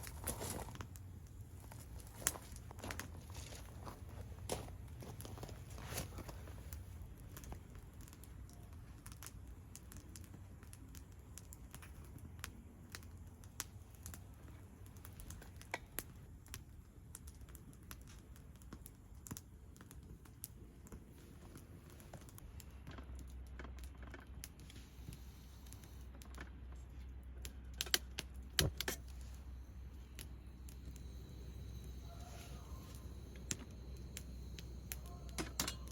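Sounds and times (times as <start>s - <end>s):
low steady rumble: 0.0s - 35.9s.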